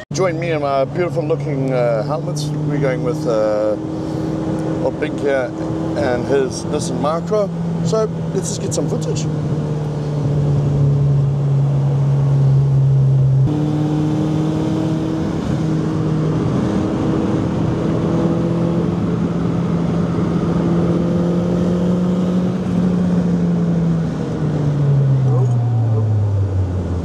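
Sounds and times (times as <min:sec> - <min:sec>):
car engine running: 0:00.1 - 0:27.0.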